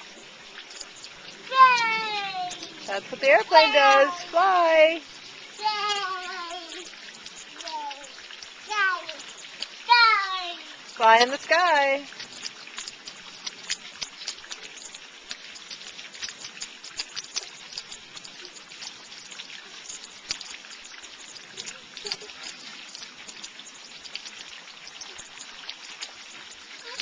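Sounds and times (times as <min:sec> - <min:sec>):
rain hiss: 0:00.0 - 0:27.0
raindrops pattering: 0:00.0 - 0:27.0.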